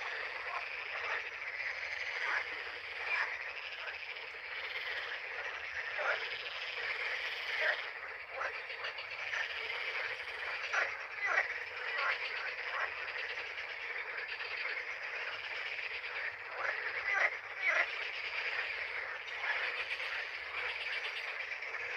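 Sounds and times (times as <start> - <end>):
frogs croaking chorus: 0.0 - 21.9.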